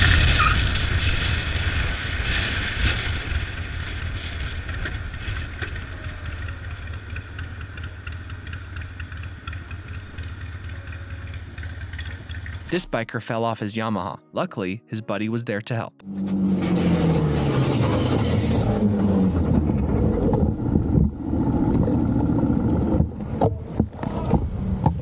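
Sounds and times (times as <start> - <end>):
motorcycle engine rumble: 0.0 - 12.9, 16.0 - 25.0.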